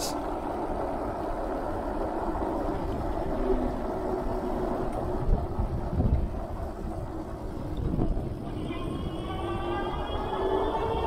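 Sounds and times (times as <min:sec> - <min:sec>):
electric bike rolling and rattling: 0:00.1 - 0:11.0.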